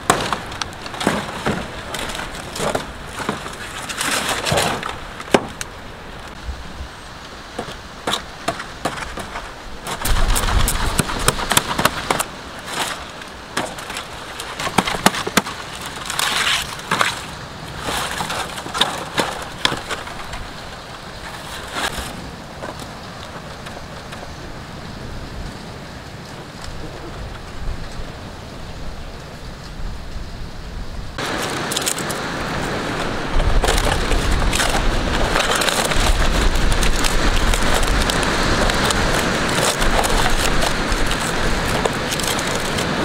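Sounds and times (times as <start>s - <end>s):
dry twigs snapping: 0.0s - 6.4s, 7.6s - 24.3s, 31.2s - 43.0s
palm fronds rustling: 0.0s - 43.0s.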